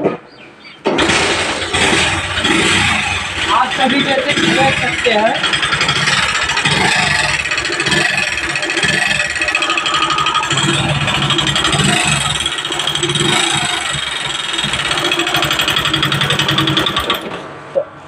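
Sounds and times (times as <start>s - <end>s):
motorcycle engine running: 1.0s - 17.3s
heavy mechanical engine knocking: 1.0s - 17.5s.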